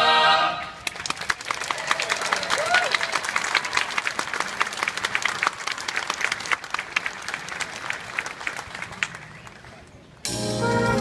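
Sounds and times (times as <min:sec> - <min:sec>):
audience applauding: 0:00.8 - 0:10.0.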